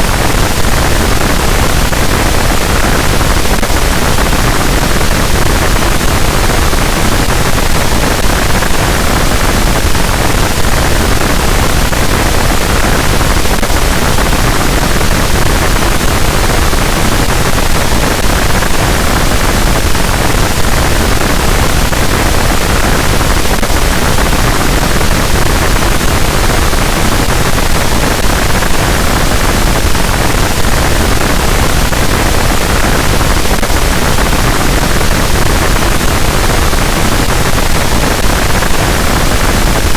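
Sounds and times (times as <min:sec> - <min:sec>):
loud dense static noise: 0:00.0 - 0:39.9.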